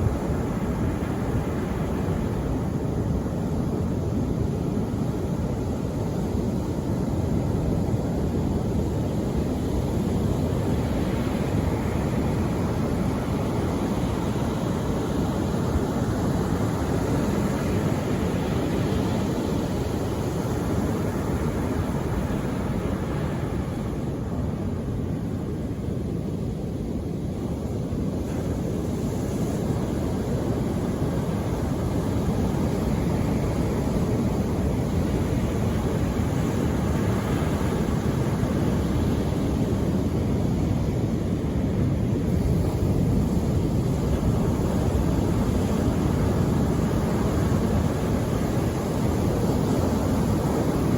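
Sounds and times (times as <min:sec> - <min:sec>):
steady sea rushing noise: 0:00.0 - 0:50.9.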